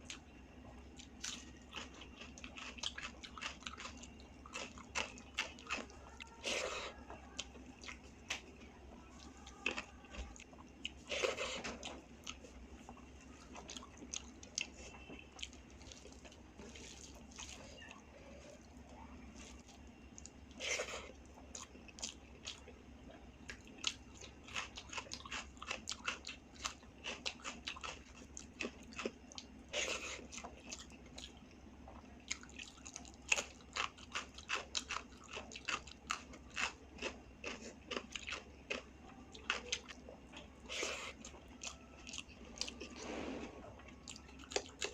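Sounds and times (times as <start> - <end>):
chewing and mouth sounds: 0.0 - 18.0, 18.6 - 43.0, 43.8 - 44.9.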